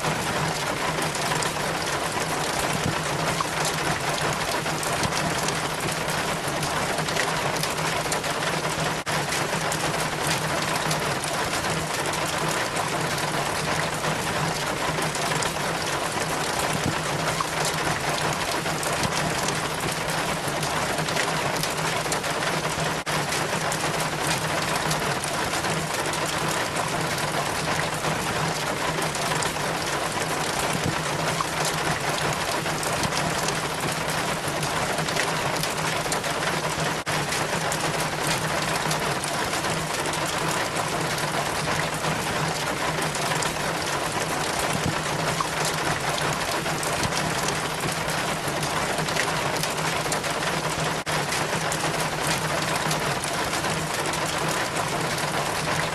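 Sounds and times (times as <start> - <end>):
water trickling down rain chain: 0.0 - 55.9.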